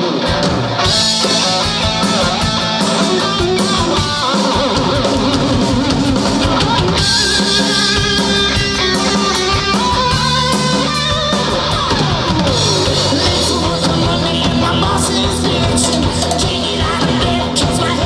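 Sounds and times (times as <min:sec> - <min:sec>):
drum kit: 0:00.0 - 0:18.0.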